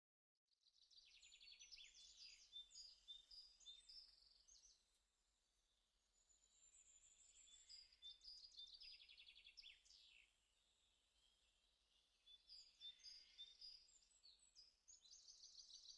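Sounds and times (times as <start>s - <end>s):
songbird trilling and chirping: 0.8s - 4.8s, 5.7s - 15.9s.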